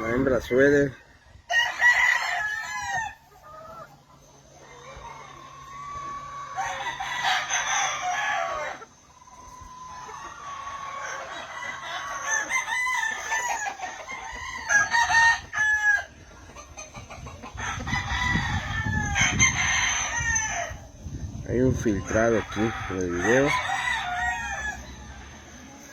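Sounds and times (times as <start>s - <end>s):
chickens clucking: 0.0s - 25.9s
roosters crowing: 0.0s - 25.9s.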